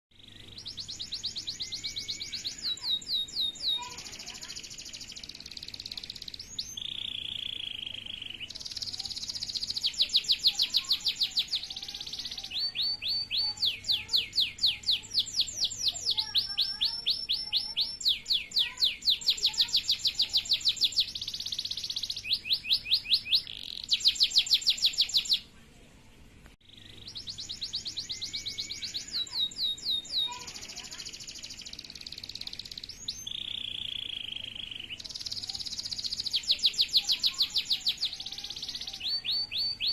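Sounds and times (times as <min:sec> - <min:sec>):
canary singing trills: 0:00.1 - 0:25.5, 0:26.6 - 0:39.9.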